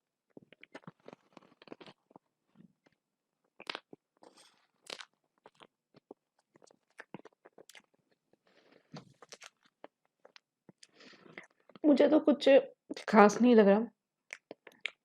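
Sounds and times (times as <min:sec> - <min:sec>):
person chewing crunchy food: 0:00.2 - 0:11.8, 0:14.2 - 0:15.0.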